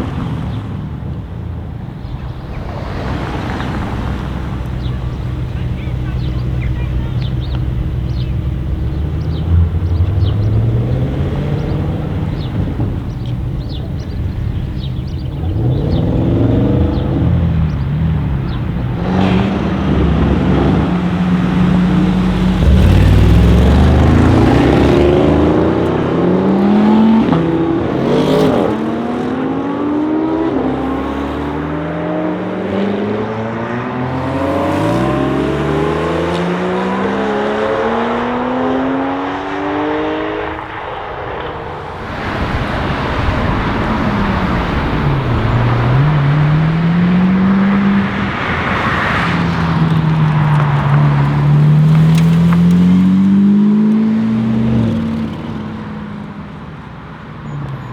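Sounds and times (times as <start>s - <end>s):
car engine revving and accelerating: 0.0s - 57.9s.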